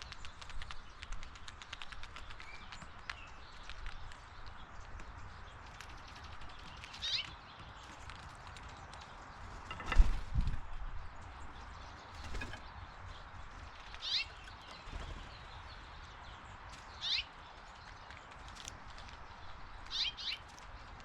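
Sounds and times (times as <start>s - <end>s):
bird chirping: 0.0s - 10.2s, 11.0s - 18.3s, 19.2s - 21.0s.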